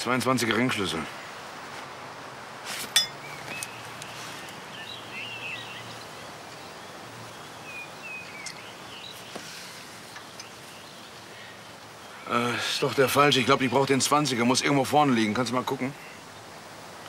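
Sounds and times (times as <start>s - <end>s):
background hiss: 0.0s - 17.0s
small birds chirping: 0.0s - 17.0s.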